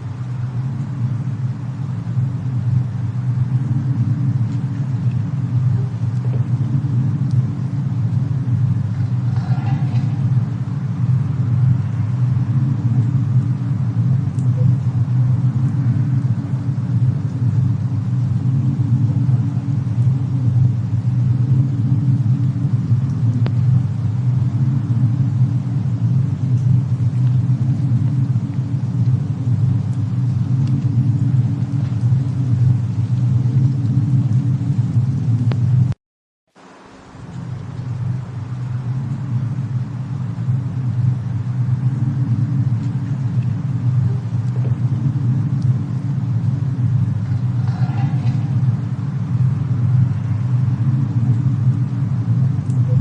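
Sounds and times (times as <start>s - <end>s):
deep rumble: 0.0s - 36.0s, 36.6s - 53.0s
fire crackles: 0.0s - 53.0s.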